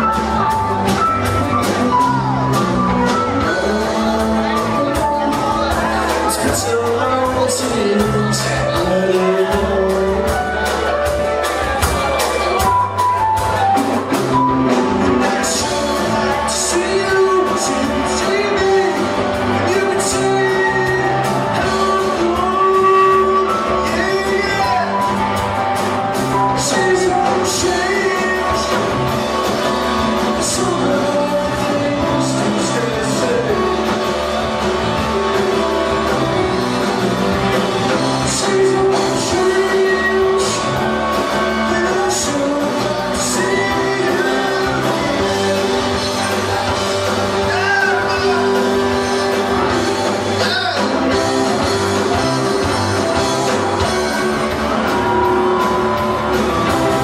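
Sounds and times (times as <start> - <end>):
bass guitar: 0.0 - 57.0
drum kit with cymbals: 0.0 - 57.0
electric guitar: 0.0 - 57.0
man singing into microphone: 1.6 - 11.1, 14.4 - 25.4, 26.1 - 57.0.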